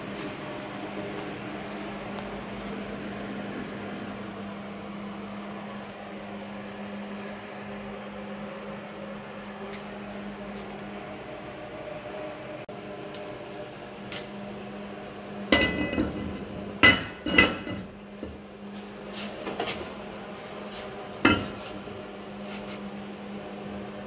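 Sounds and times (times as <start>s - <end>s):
machine hum with low drone: 0.0s - 24.0s.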